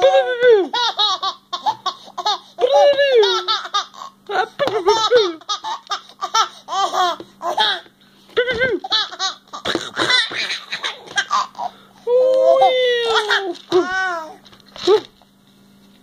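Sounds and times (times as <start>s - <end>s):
baby laughing: 0.0s - 11.8s, 12.4s - 14.4s.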